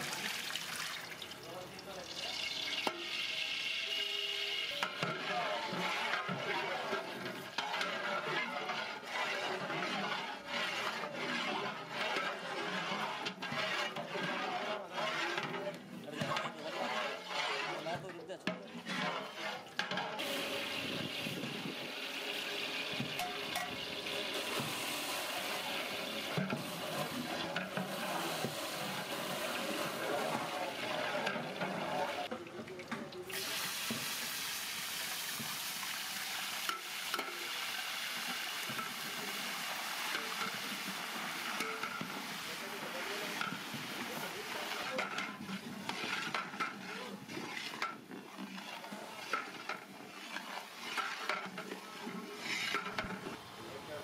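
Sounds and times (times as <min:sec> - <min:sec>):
spices sizzling in hot oil: 0:00.0 - 0:14.4, 0:20.2 - 0:32.3, 0:33.3 - 0:53.8
metal ladle scraping a pot: 0:02.2 - 0:54.0.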